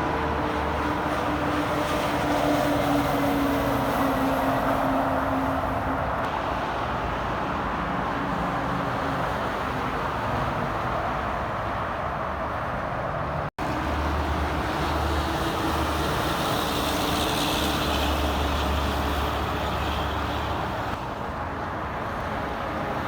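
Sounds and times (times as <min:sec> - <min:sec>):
highway traffic: 0:00.0 - 0:23.0.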